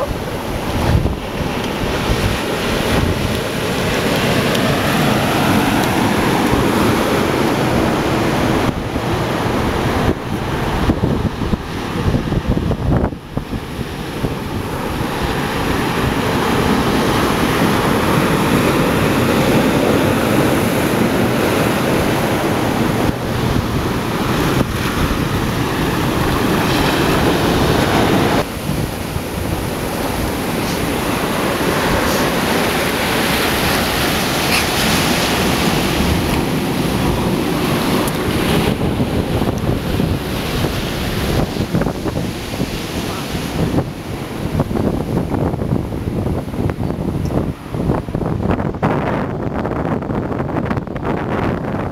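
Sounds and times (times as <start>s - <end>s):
ocean surf breaking on rocks: 0.0s - 51.9s
wind buffeting microphone: 0.0s - 51.9s.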